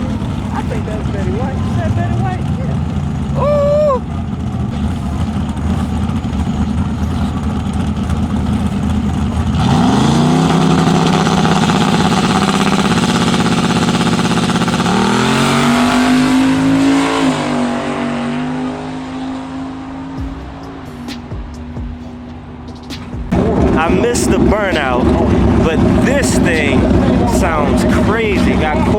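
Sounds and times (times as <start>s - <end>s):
drag racing car engine revving: 0.0s - 28.9s.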